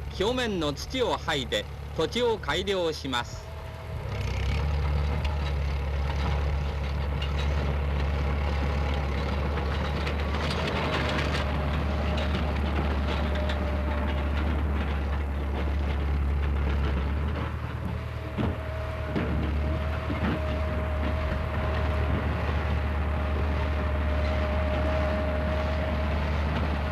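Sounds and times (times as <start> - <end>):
heavy machinery engine drone: 0.0 - 26.9.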